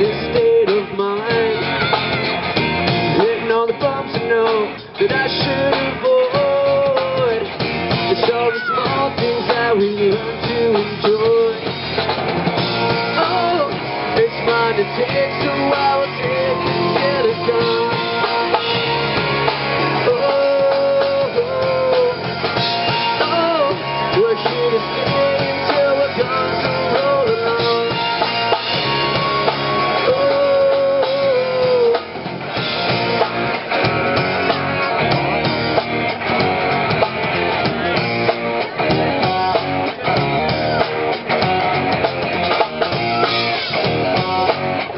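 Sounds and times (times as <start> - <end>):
drum kit: 0.0 - 44.9
electric bass: 0.0 - 44.9
electric guitars: 0.0 - 44.9.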